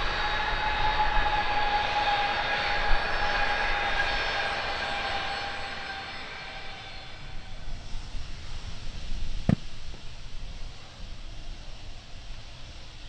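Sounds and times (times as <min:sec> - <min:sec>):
jet engines passing: 0:00.0 - 0:13.0.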